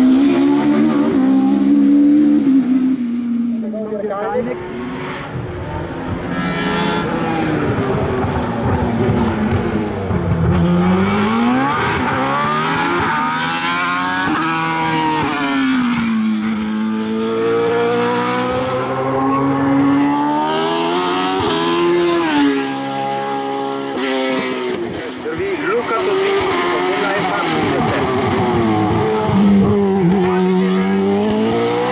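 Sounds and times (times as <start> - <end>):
racing car engine revving: 0.0 - 31.9.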